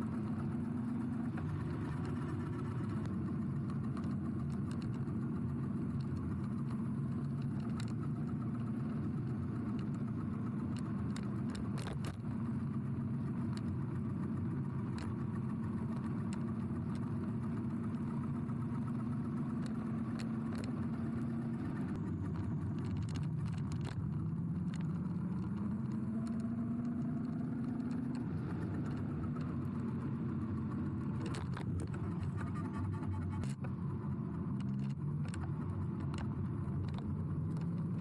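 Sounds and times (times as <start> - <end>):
vehicle motor humming: 0.0 - 38.0.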